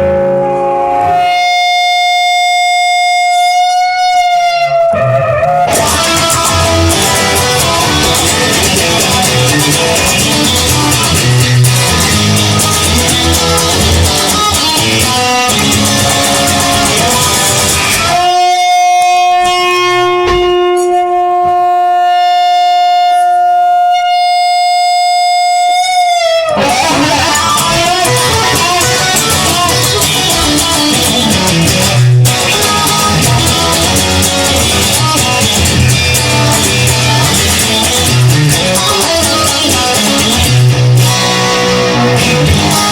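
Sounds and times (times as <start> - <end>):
rock band playing: 0.0 - 22.8, 24.1 - 42.9
guitar long held note bending: 0.0 - 42.9.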